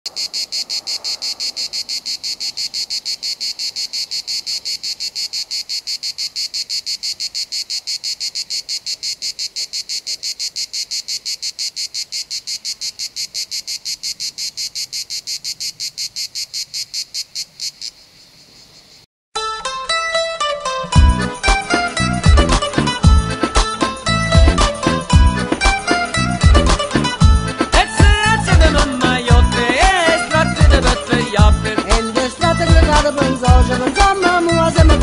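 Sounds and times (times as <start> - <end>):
cicadas chirping: 0.1 - 19.1, 22.7 - 34.6.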